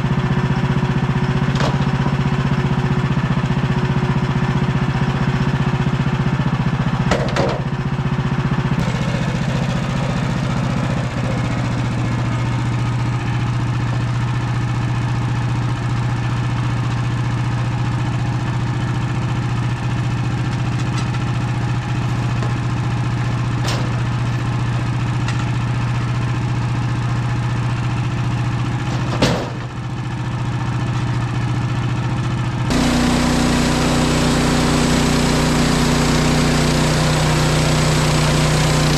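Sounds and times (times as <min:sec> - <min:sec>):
sawmill engine running under load: 0:00.0 - 0:38.9.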